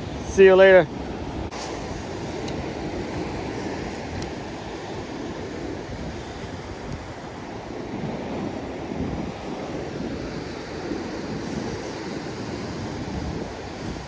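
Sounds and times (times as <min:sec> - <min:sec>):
ocean surf breaking on rocks: 0:00.0 - 0:14.0
wind buffeting microphone: 0:00.0 - 0:14.0.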